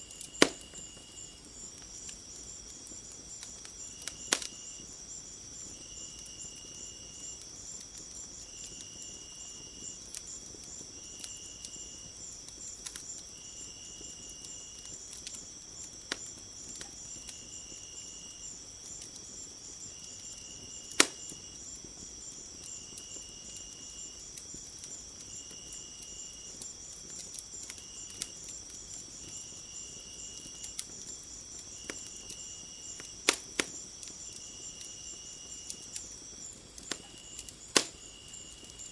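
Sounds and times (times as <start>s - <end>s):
crickets chirping: 0.0s - 38.9s
low insect trill: 0.0s - 38.9s
wood fire crackling: 0.0s - 38.9s.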